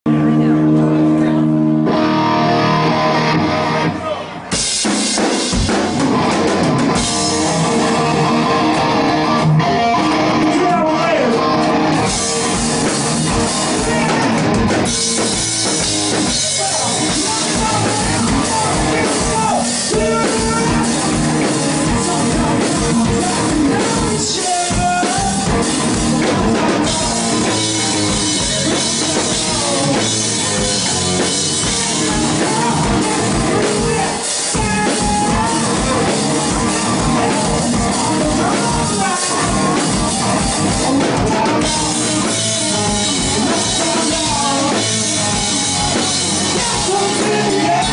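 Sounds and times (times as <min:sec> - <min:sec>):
bass guitar: 0:00.0 - 0:47.9
drum kit: 0:00.1 - 0:47.9
electric guitar: 0:00.1 - 0:47.9.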